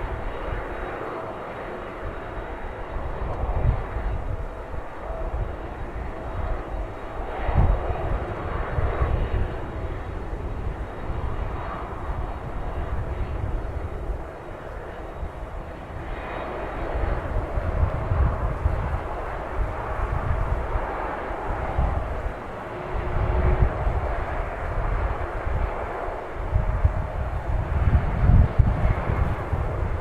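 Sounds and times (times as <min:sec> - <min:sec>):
jet engines roaring: 0:00.0 - 0:30.0
wind on microphone: 0:00.0 - 0:30.0.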